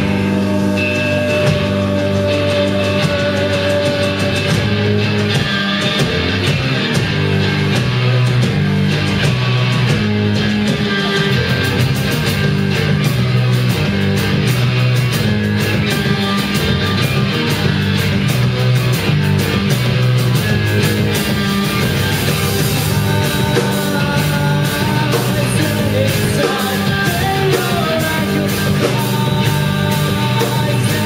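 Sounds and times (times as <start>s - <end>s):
heavy rock band playing: 0.0s - 31.0s.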